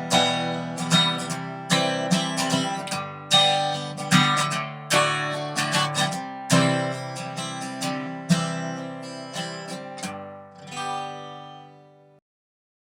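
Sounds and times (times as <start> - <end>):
acoustic guitar strumming: 0.0 - 12.2.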